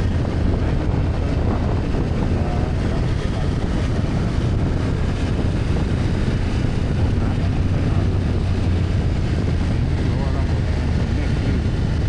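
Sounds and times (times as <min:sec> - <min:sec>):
road noise: 0:00.0 - 0:12.0
wind rush: 0:00.0 - 0:12.0.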